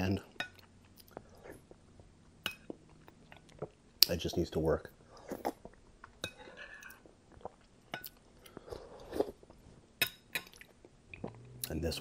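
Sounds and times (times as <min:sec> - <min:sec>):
wet chewing and swallowing: 0:00.4 - 0:04.1, 0:05.0 - 0:09.8, 0:10.4 - 0:11.7.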